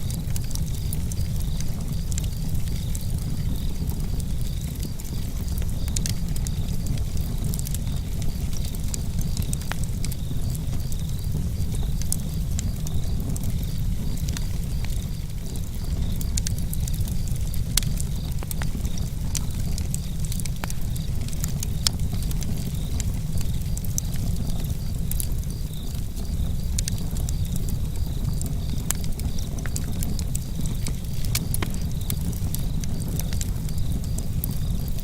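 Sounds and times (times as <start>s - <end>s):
campfire flames rumbling: 0.0s - 35.0s
crickets chirping: 0.0s - 35.0s
wood crackling and popping: 0.0s - 35.0s.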